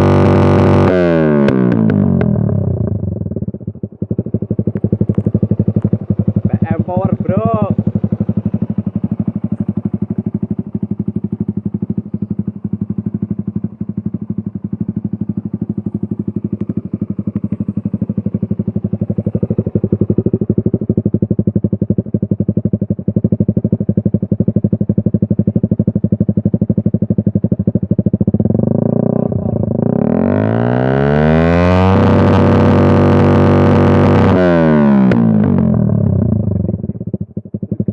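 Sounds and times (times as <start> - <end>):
motorcycle engine idling: 0.0 - 31.2, 31.9 - 37.9.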